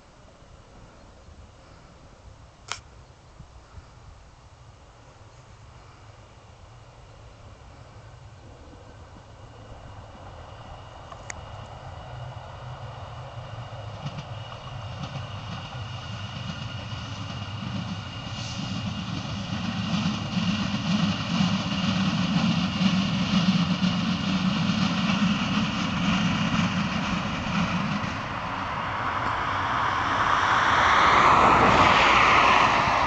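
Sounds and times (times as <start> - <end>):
diesel train engine drone: 0.0 - 33.0
train rushing running noise: 5.6 - 33.0.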